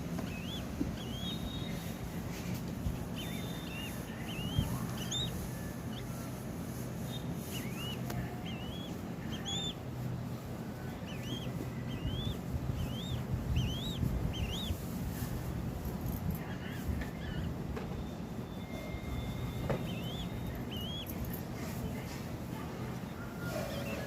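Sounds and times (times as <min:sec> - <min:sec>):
falcon chick chirping: 0:00.0 - 0:15.6, 0:16.4 - 0:22.0, 0:23.0 - 0:24.0
steady low hum: 0:00.0 - 0:24.0.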